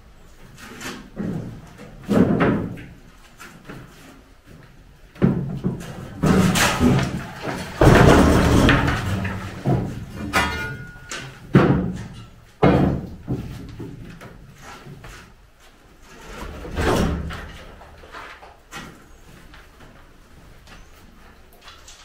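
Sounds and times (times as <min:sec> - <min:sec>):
wooden planks clattering and thudding: 0:00.4 - 0:22.0.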